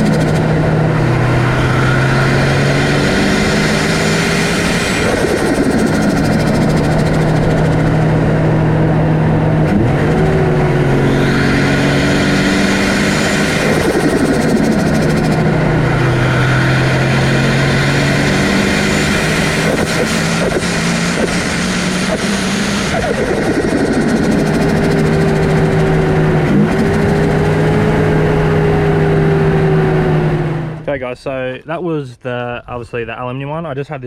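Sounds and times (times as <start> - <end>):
turbocharged car engine accelerating: 0.0 - 31.0.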